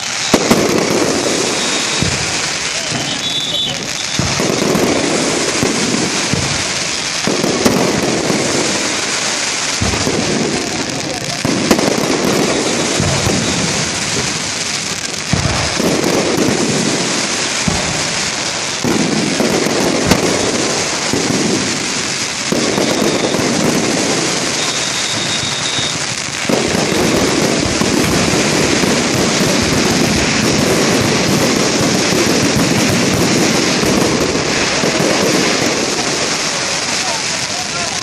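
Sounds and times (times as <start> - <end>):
firework fountain crackling: 0.0 - 38.0
sharp firework pops: 0.0 - 38.0.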